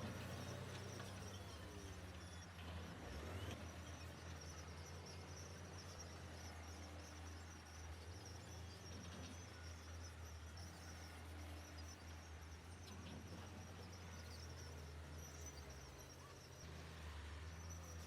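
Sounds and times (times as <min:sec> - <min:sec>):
distant heavy machinery engines: 0:00.0 - 0:18.0
insects buzzing: 0:00.0 - 0:18.0.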